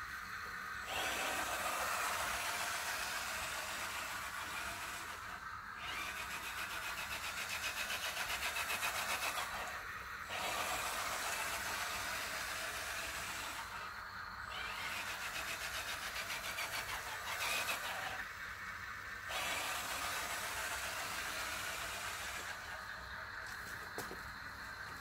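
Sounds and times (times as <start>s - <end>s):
toy truck motor whine: 0.0s - 25.0s.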